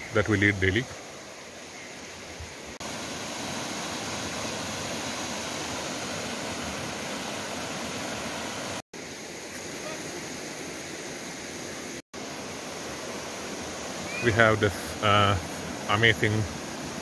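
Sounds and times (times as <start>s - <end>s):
creek water rushing over boulders: 0.0s - 17.0s.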